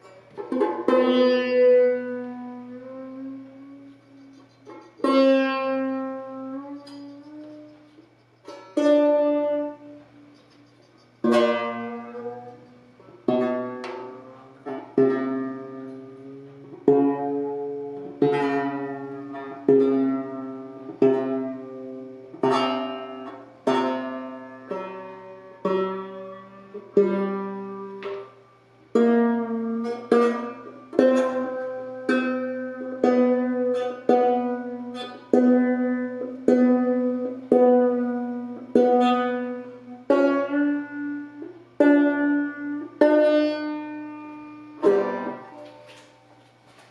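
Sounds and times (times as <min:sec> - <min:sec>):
banjo plucked and strummed: 0:00.0 - 0:46.1.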